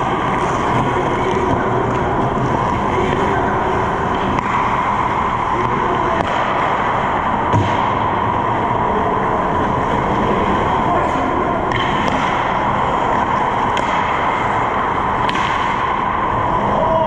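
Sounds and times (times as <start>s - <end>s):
rushing hum of ice rink: 0.0s - 17.0s.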